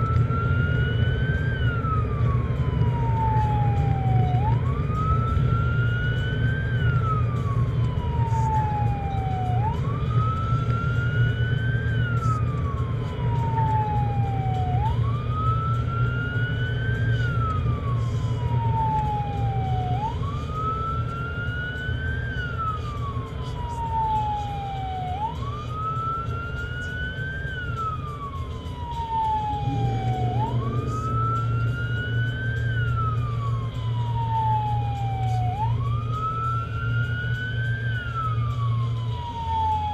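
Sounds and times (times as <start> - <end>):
emergency vehicle siren wailing: 0.0 - 39.9
road and engine drone: 0.0 - 39.9.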